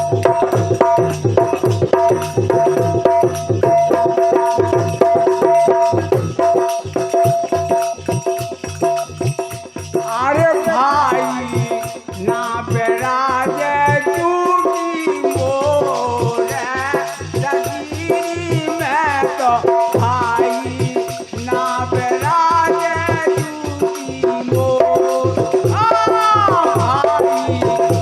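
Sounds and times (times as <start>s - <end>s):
drum beat: 0.0s - 28.0s
jingling rattle: 0.0s - 28.0s.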